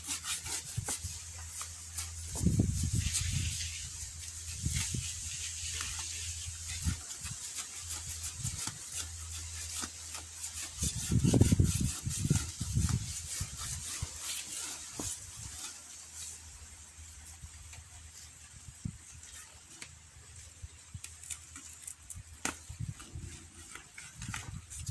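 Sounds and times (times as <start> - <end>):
leaves rustling and crackling: 0.0 - 24.9.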